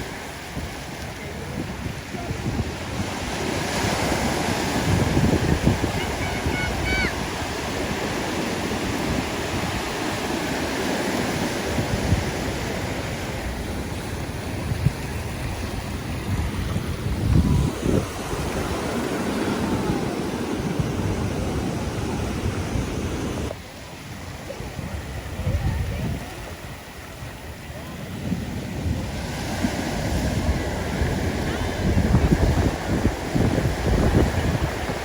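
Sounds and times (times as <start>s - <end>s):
surf breaking on beach: 0.0s - 35.0s
wind buffeting microphone: 0.0s - 35.0s.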